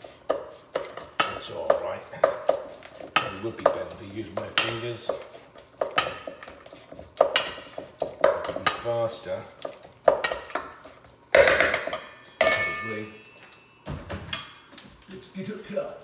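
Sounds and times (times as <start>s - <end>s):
utensil scraping metal bowl: 0.0s - 13.0s.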